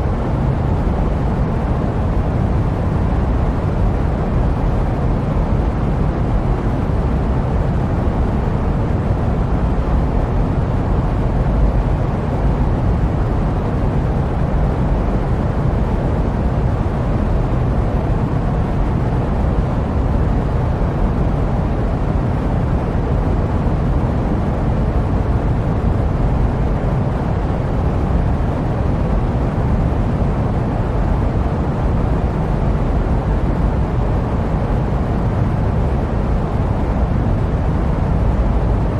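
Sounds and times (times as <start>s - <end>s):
jet plane rumble: 0.0s - 38.9s.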